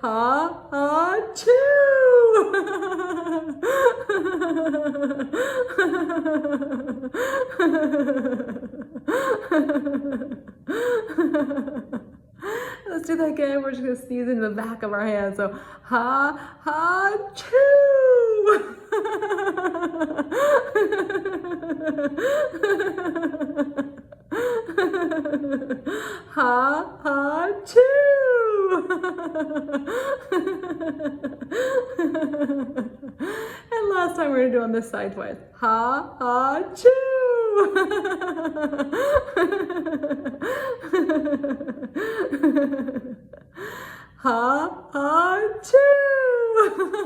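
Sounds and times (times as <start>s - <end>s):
woman laughing: 0.1s - 12.6s, 16.9s - 34.2s, 35.7s - 43.7s, 44.3s - 47.0s.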